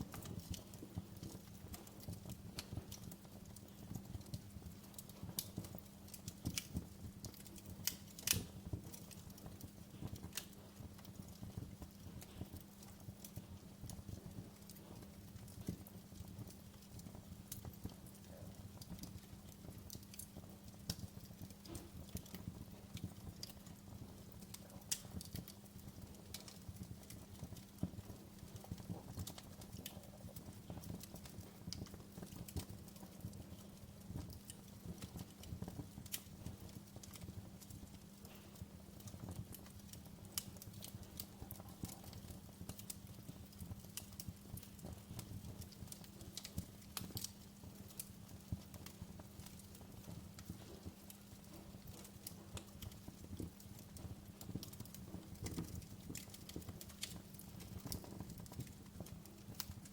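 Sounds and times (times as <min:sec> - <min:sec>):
fire popping: 0:00.0 - 0:59.9
low rumble of burning: 0:00.0 - 0:59.9
wood fire crackling: 0:00.0 - 0:59.9.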